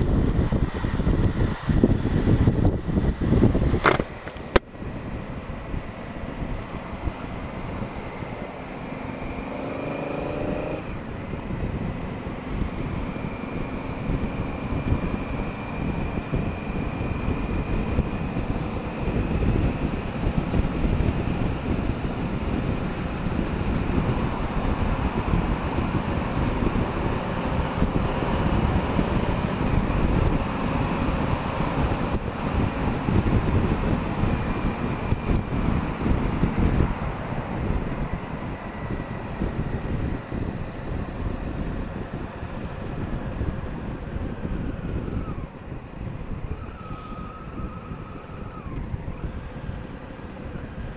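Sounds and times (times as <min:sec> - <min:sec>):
motorcycle engine: 0:00.0 - 0:50.9
road noise: 0:00.0 - 0:50.9
wind rushing over microphone: 0:00.0 - 0:50.9.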